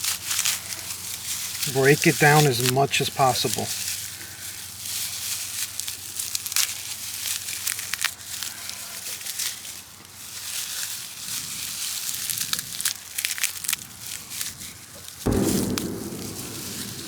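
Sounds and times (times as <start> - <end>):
dry grass crackling rustle: 0.0 - 16.7.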